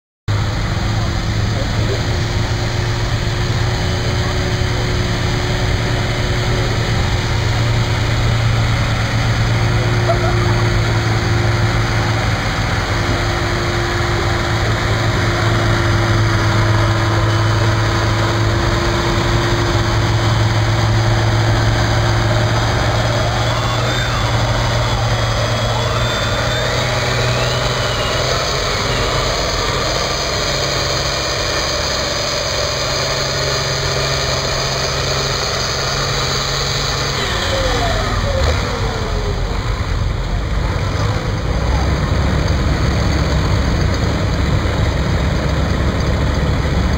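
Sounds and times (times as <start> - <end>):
tractor diesel engine under load: 0.3 - 46.9.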